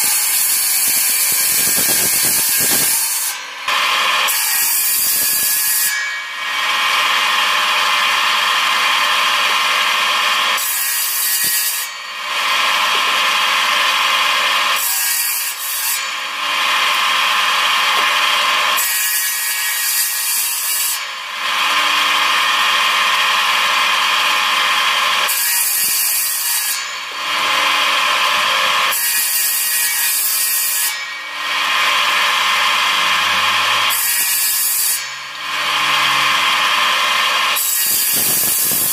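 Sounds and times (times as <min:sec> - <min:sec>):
saw cutting through wood: 0:00.0 - 0:38.9
table saw motor whining: 0:00.0 - 0:38.9.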